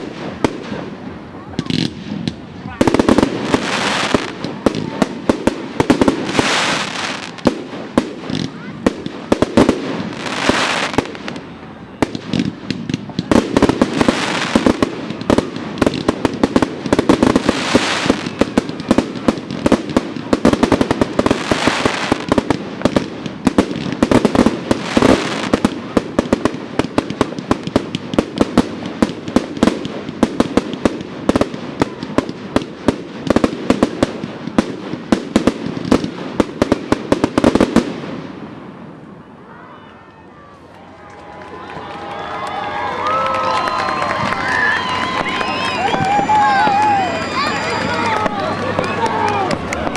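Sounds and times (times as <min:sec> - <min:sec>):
fireworks bangs and crackles: 0:00.0 - 0:41.1, 0:42.2 - 0:49.9.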